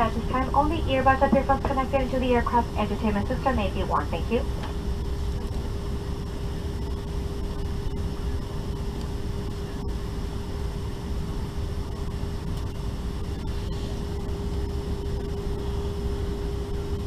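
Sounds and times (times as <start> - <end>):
air-conditioning air rushing: 0.0 - 17.0
constant hum: 0.0 - 17.0
low rumble: 0.0 - 17.0.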